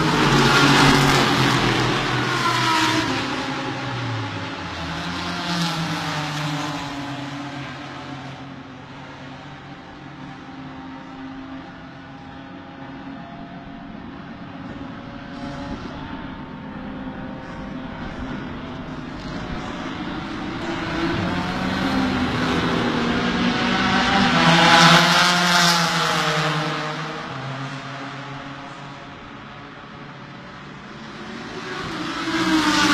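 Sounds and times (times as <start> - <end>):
race car engines: 0.0 - 32.9
race car passing by: 0.0 - 32.9.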